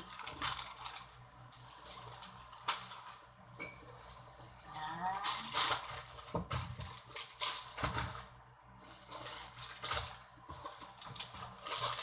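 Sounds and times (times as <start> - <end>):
plastic packets rustling: 0.0 - 12.0.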